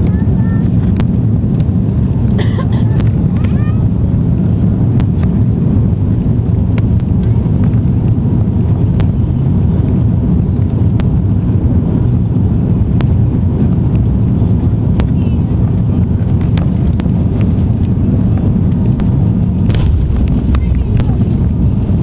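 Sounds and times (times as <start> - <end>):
airplane cockpit engine rumble: 0.0 - 22.0.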